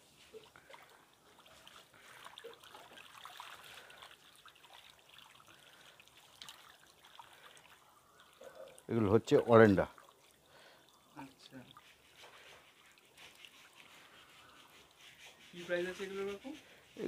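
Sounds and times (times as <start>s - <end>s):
goldfish splashing in a net: 0.0s - 9.0s, 9.9s - 15.2s
water dripping: 0.2s - 15.2s.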